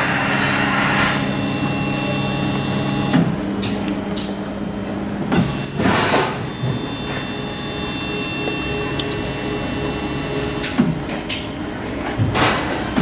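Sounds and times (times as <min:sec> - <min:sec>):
thin high-pitched whine: 0:00.0 - 0:11.6
steady machine hum: 0:00.0 - 0:13.0.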